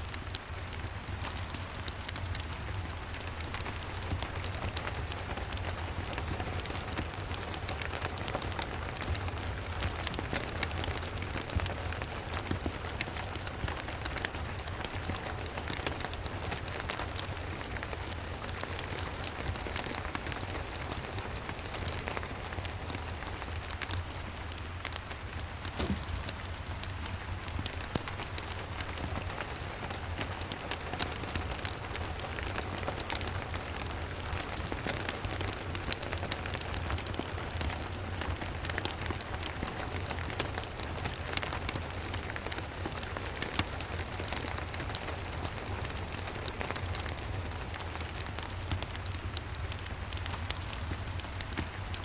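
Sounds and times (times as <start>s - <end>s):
steady rain falling: 0.0s - 52.0s
wood fire crackling: 0.0s - 52.0s.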